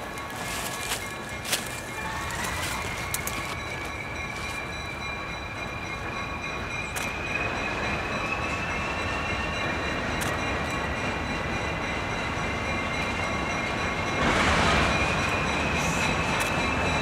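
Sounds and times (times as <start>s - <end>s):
diesel locomotive rumbling: 0.0s - 17.0s.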